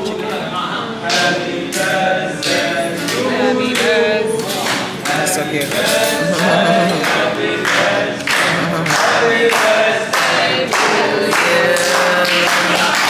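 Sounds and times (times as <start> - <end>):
voices singing together: 0.0 - 13.0
rhythmic hand clapping: 1.0 - 13.0.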